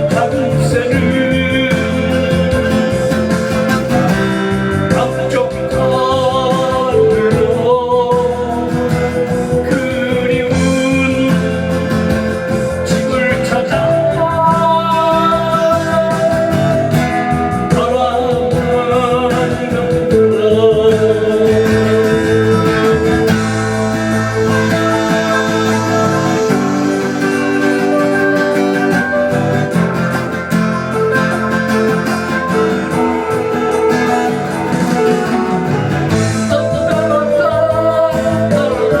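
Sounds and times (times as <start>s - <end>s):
guitar accompaniment: 0.0s - 39.0s
person singing: 0.0s - 39.0s.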